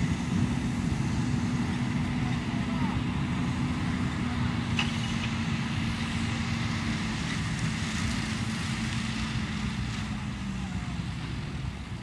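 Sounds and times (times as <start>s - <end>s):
tractor and baler droning: 0.0s - 12.0s.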